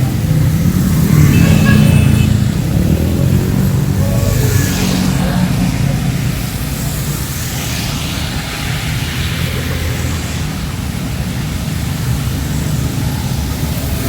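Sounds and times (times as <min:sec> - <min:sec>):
heavy rain pouring: 0:00.0 - 0:14.0
road traffic rumble: 0:00.0 - 0:14.0.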